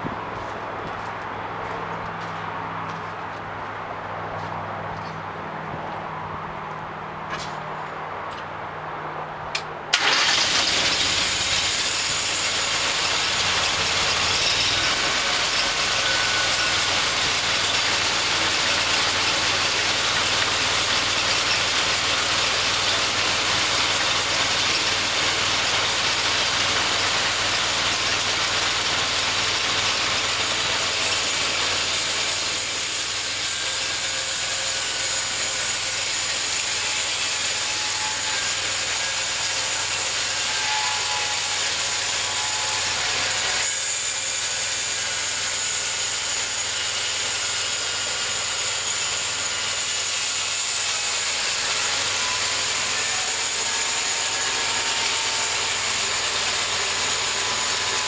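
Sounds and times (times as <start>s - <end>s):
sawmill engine running: 9.9s - 58.0s.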